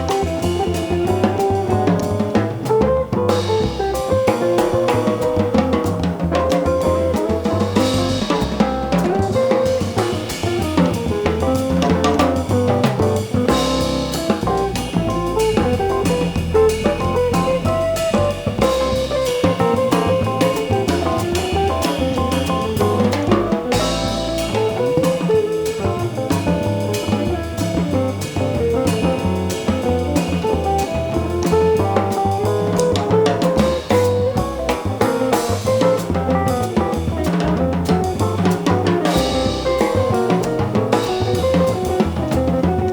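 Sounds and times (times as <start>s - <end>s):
drum kit: 0.0s - 42.9s
electric guitar: 0.0s - 42.9s
jazz band playing: 0.0s - 42.9s.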